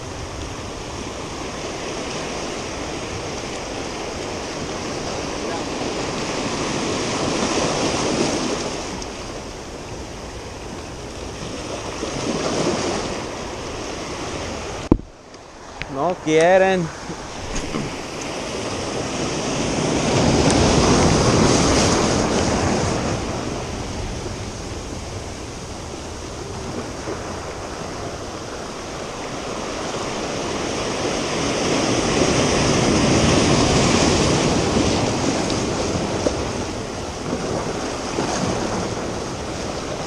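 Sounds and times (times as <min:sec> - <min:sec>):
surf breaking over rocks: 0:00.0 - 0:40.0.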